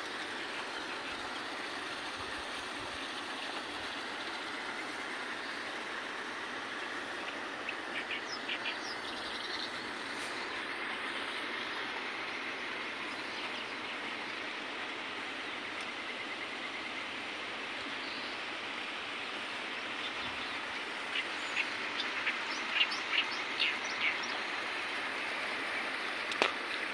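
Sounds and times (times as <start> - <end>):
rushing outdoor background noise: 0.0 - 26.9.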